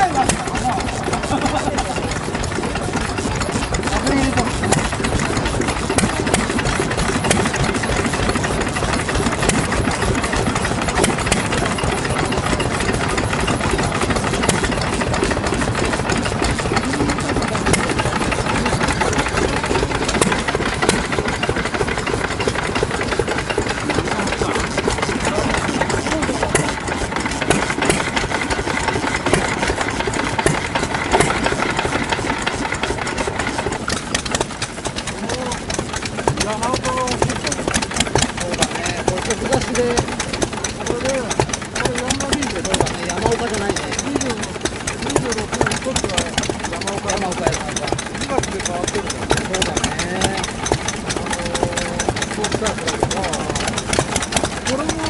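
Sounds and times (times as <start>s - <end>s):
diesel engine running steadily: 0.0s - 55.0s.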